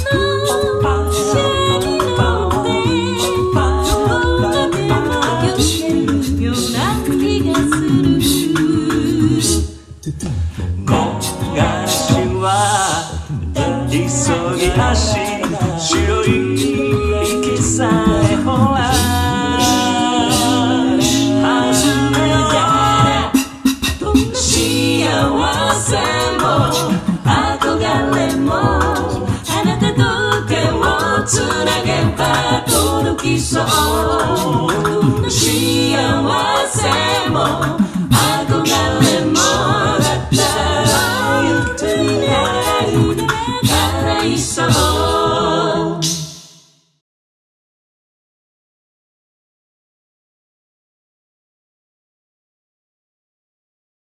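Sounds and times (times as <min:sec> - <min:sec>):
sung bass line: 0:00.0 - 0:46.0
beatboxed vocal percussion: 0:00.0 - 0:46.6
a cappella group singing: 0:00.0 - 0:46.7.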